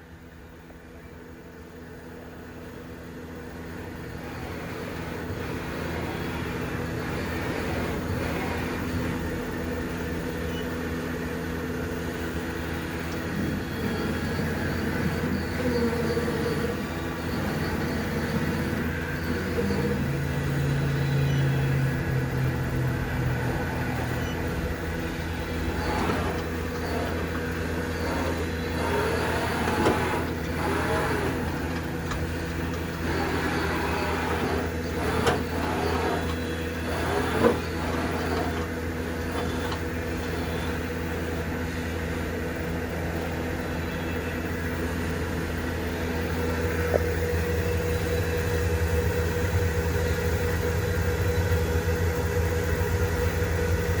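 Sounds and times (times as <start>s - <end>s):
gliding whirs of spindle drives: 0.0s - 54.0s
milling machine electric hum: 0.0s - 54.0s.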